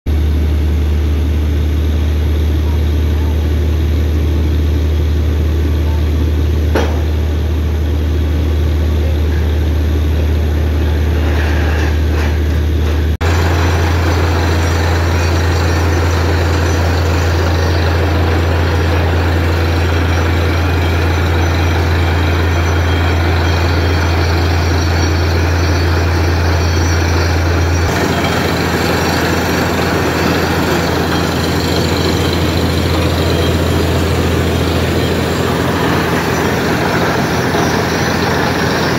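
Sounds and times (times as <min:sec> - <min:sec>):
diesel engine and compressor drone: 0:00.1 - 0:38.9.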